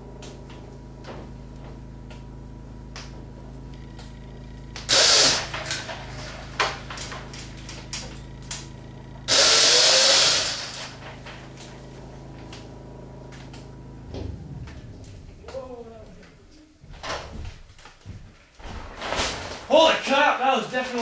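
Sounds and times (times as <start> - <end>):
electric motor machinery noise: 0.0 - 17.6.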